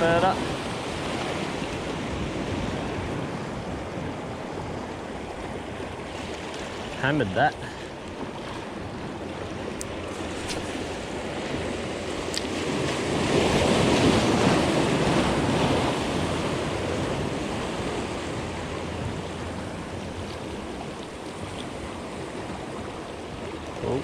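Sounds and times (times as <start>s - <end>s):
sea waves washing in: 0.0s - 24.0s.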